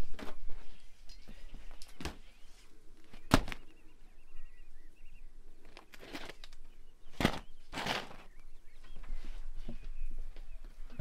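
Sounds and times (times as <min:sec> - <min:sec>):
small birds chirping: 0:00.4 - 0:11.0.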